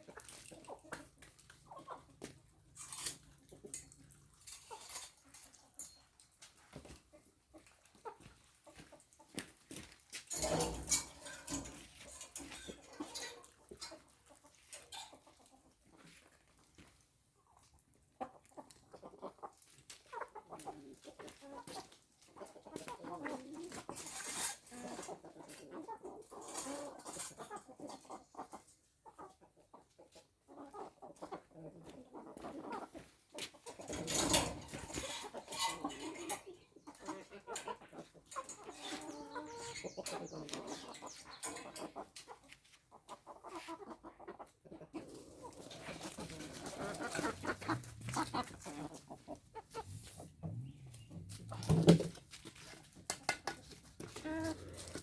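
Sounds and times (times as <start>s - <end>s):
chickens clucking: 0.0s - 9.6s, 10.2s - 55.0s.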